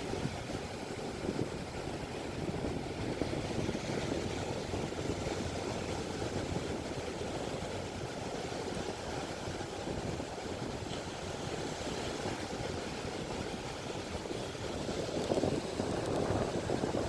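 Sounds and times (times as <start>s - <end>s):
ocean surf breaking on beach: 0.0s - 17.0s.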